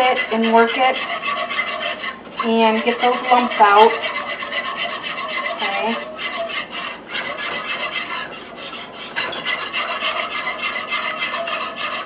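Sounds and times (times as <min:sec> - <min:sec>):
wire whisk scraping a pot: 0:00.0 - 0:12.0.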